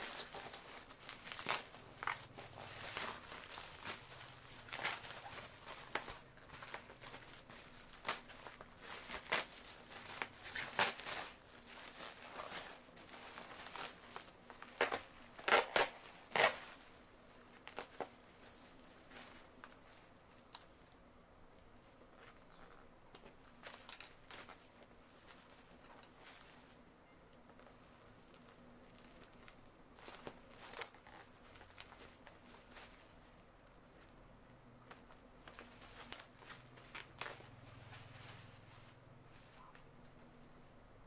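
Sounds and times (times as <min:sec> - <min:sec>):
bubble wrap crinkling: 0:00.0 - 0:41.0.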